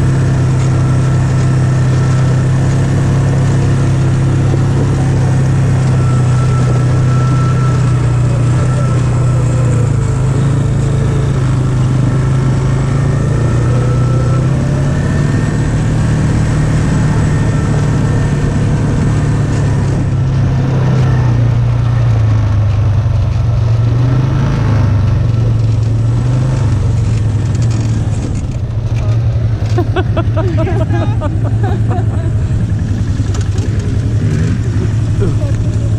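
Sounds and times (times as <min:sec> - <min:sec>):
atv engine running: 0:00.0 - 0:35.9.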